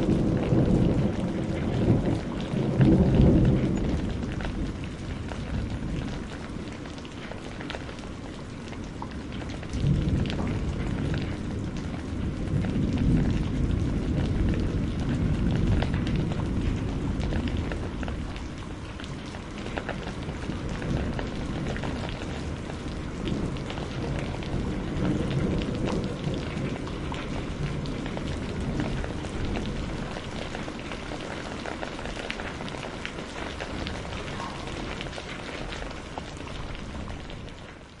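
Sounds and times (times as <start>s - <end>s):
distant thunder rumbling: 0.0s - 37.6s
heavy rain: 0.0s - 38.0s.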